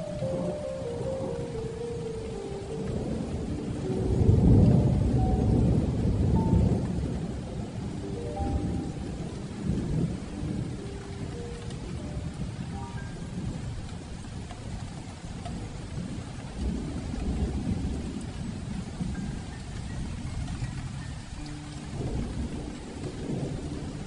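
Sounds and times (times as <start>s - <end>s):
heavy rain on a metal roof: 0.0s - 24.0s
soft melody of held notes: 0.0s - 24.0s
thunder rumbling: 0.0s - 24.0s.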